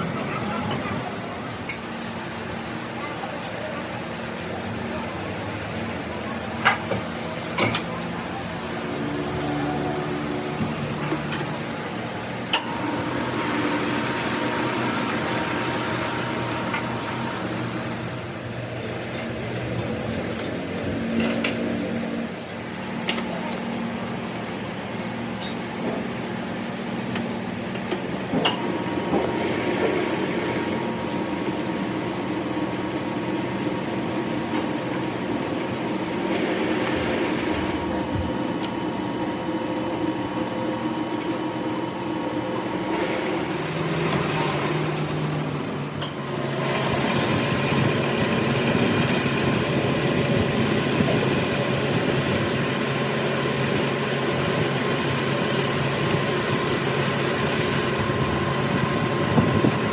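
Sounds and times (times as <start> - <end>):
machine motor humming whine: 0.0 - 59.9.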